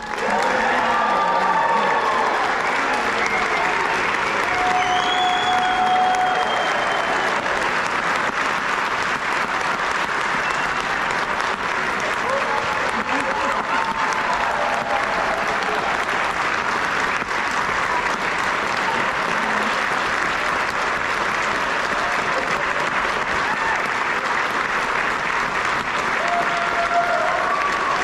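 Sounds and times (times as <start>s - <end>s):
audience applause: 0.0s - 28.0s.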